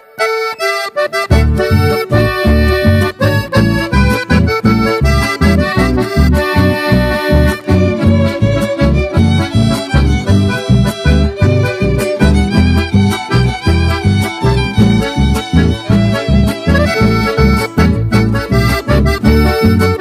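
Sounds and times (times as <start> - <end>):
accordion folk music: 0.0 - 20.0
pulsing bass beat: 1.3 - 20.0.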